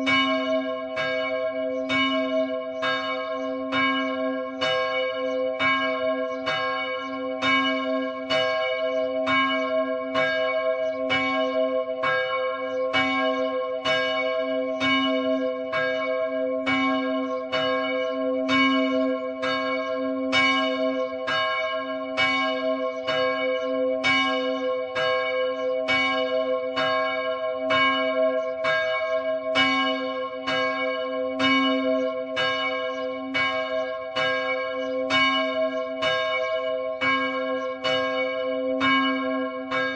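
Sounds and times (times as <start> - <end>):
church bell striking: 0.0 - 39.9.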